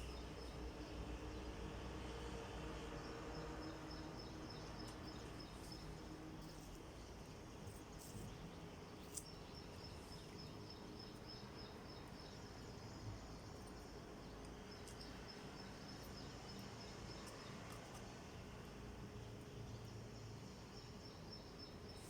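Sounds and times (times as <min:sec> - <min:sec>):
low background hiss: 0:00.0 - 0:22.0.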